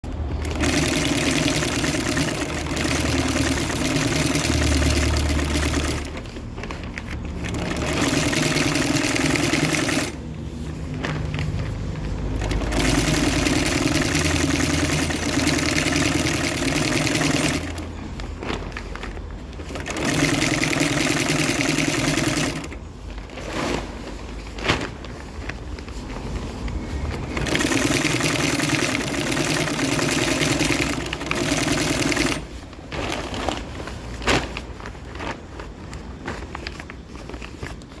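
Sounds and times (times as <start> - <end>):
industrial sewing machine stitching: 0.0 - 25.3, 25.9 - 34.7.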